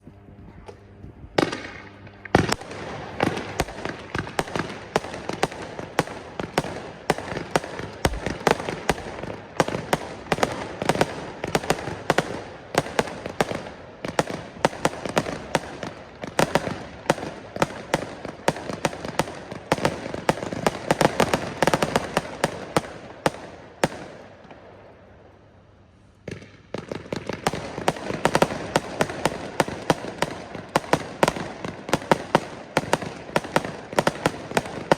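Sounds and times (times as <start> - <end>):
fireworks battery rapid shots: 1.4 - 24.4, 26.2 - 34.9.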